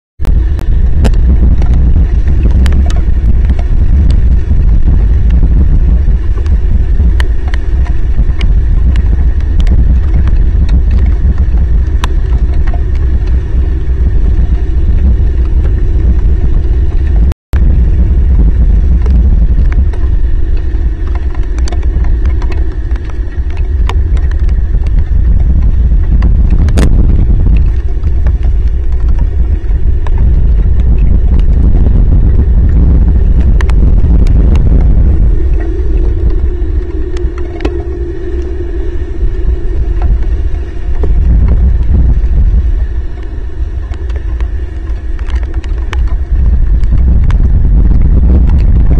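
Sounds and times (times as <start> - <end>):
raindrops ticking on microphone: 0.2 - 48.9
heavy rain: 0.3 - 48.9.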